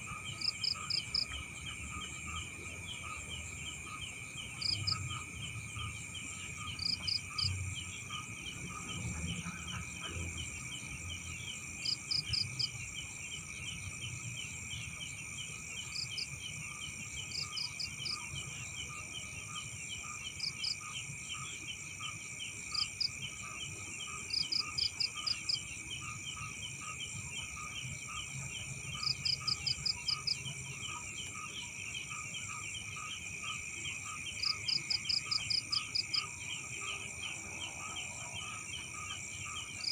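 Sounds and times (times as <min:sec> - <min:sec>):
crickets and insects trilling: 0:00.1 - 0:39.9.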